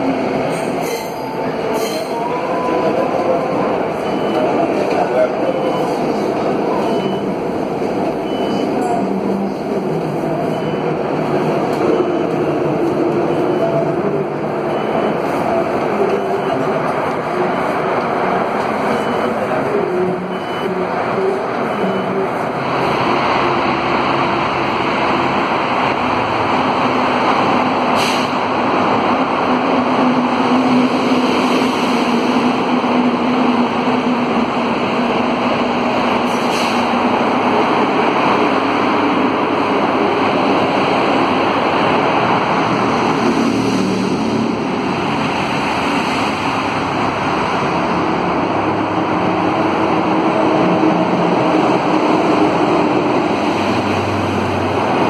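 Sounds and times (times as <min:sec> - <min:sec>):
metro train rumbling: 0:00.0 - 0:55.0.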